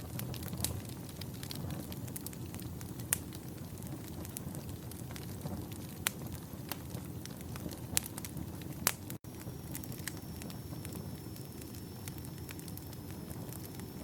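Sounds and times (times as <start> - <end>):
campfire flames rumbling: 0.0 - 14.0
fire crackling and popping: 0.0 - 14.0.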